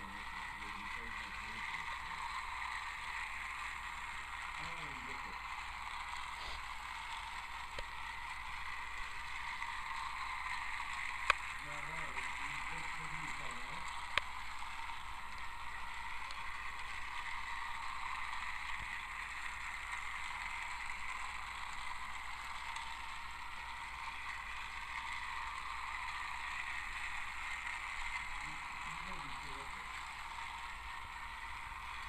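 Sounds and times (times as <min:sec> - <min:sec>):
toy train motor whirring: 0:00.0 - 0:32.0.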